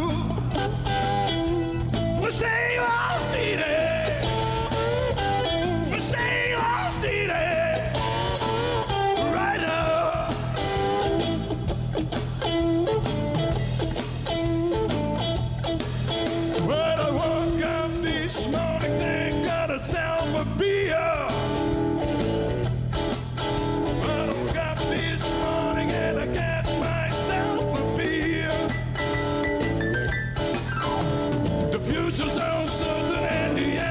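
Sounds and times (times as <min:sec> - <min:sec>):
live rock band with singer: 0:00.0 - 0:33.9.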